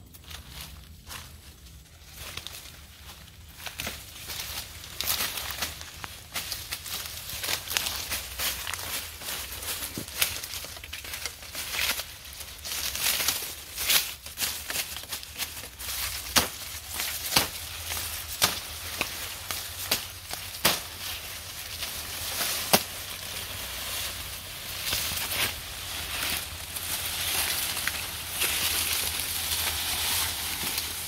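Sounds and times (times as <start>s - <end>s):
rustling and crackling: 0.0s - 31.0s.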